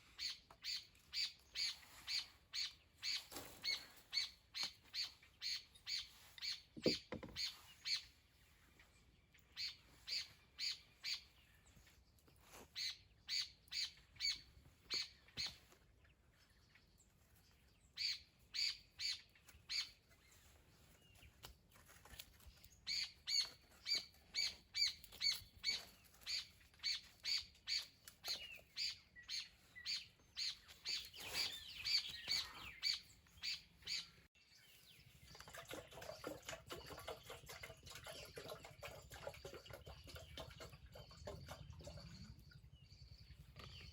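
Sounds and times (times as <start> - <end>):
bird chirping: 0.0 - 21.9, 22.5 - 43.9.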